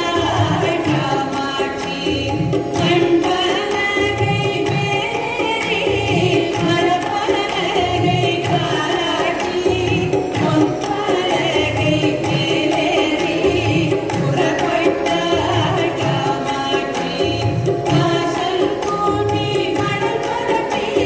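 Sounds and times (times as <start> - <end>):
person singing devotional song: 0.0 - 21.0.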